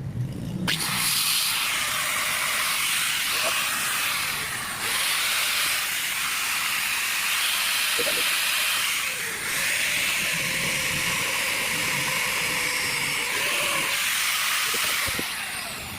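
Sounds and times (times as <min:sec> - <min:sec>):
angle grinder whirring: 0:00.6 - 0:15.9.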